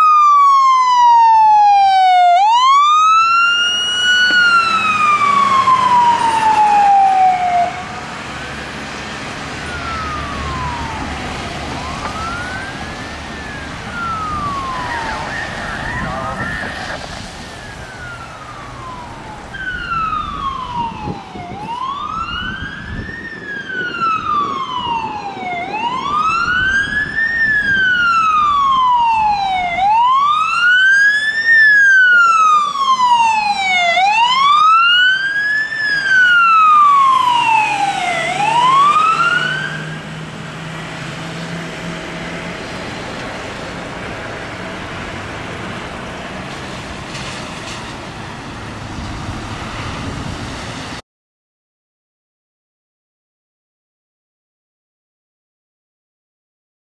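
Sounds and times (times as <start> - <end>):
emergency siren wailing: 0.0 - 51.0
engine and road noise: 0.0 - 51.0.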